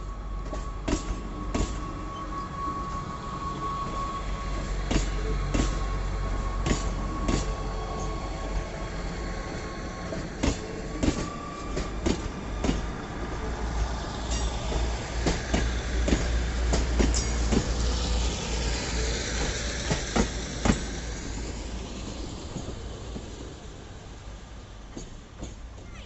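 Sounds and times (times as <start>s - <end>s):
low train rumble: 0.0s - 26.0s
train wheels clacking over rails: 0.3s - 3.2s, 3.8s - 24.1s, 24.8s - 26.0s.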